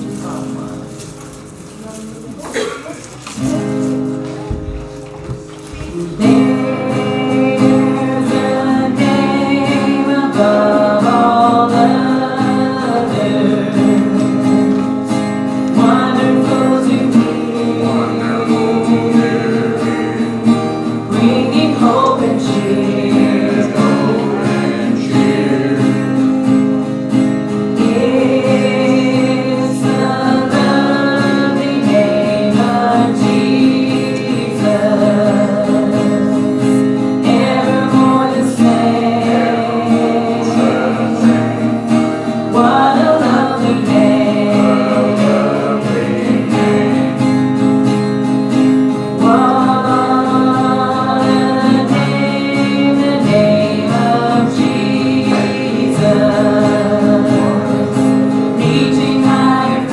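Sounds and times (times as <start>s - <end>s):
congregation singing a hymn: 0.0s - 59.9s
strummed acoustic guitar: 0.0s - 59.9s.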